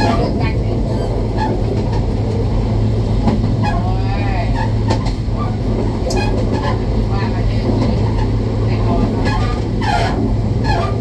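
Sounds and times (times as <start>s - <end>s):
diesel train engine drone: 0.0s - 11.0s
train wheels rumbling on rails: 0.0s - 11.0s.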